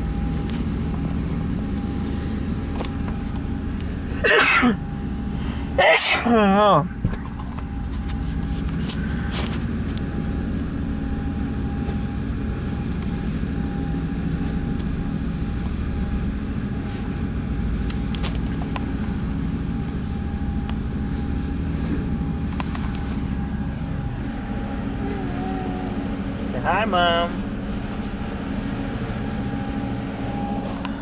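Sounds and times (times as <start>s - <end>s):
motorboat engine droning: 0.0s - 31.0s.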